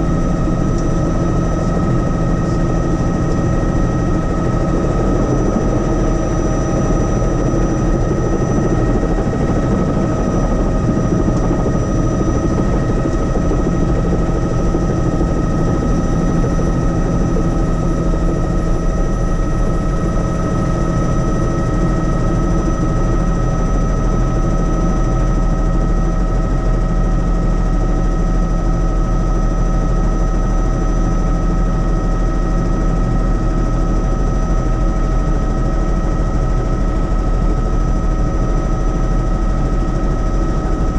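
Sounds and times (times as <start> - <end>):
helicopter cabin drone: 0.0 - 40.9
helicopter high whine: 0.0 - 40.9.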